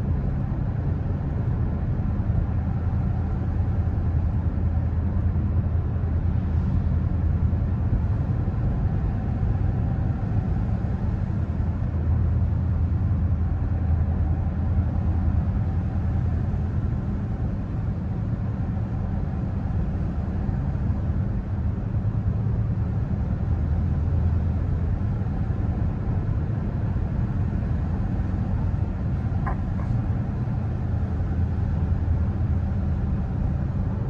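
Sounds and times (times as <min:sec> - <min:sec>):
car interior road rumble: 0:00.1 - 0:34.0.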